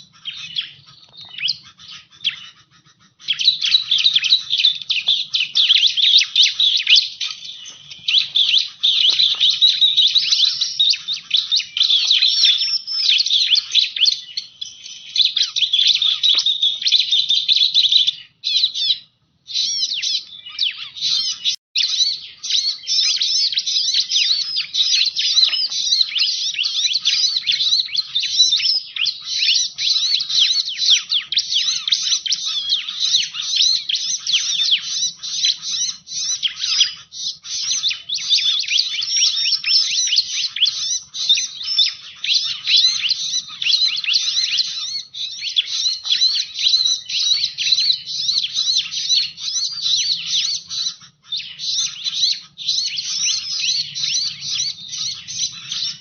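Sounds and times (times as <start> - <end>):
bird calling in rapid high chirps: 0.0 - 56.0.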